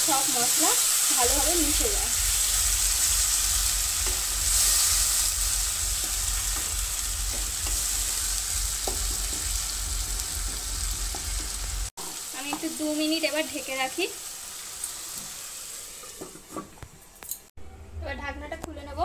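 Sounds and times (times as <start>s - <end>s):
paste sizzling in oil: 0.0s - 16.4s.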